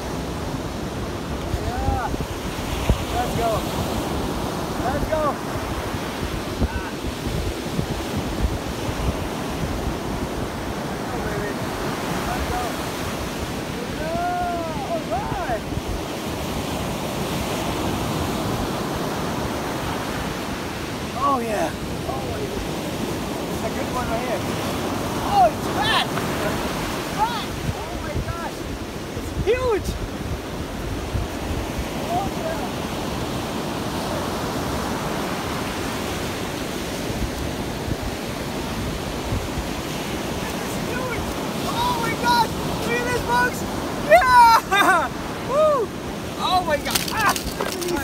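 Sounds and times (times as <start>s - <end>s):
ocean surf breaking on beach: 0.0s - 48.0s
wind buffeting microphone: 0.0s - 48.0s.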